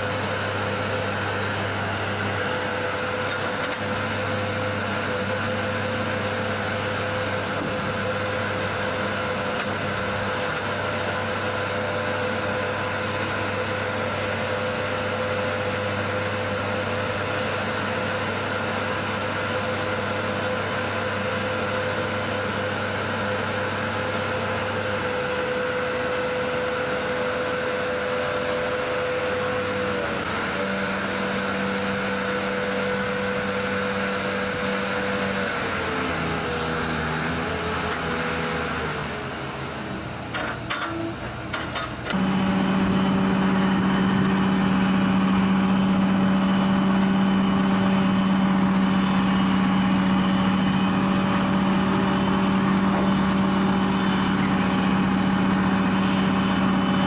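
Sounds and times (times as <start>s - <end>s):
heavy truck machinery humming: 0.0s - 57.0s
machinery whine: 0.0s - 57.0s.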